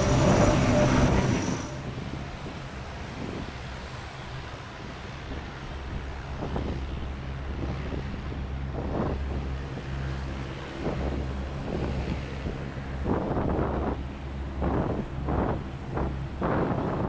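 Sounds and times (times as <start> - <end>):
propeller engine drone: 0.0 - 17.0
wind buffeting microphone: 0.0 - 17.0.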